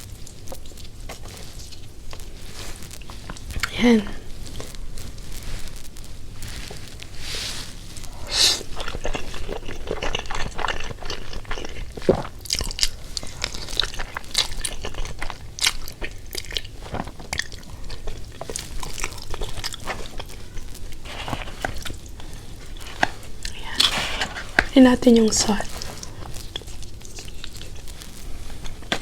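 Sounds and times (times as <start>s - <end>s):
person chewing crunchy food: 0.0s - 29.0s.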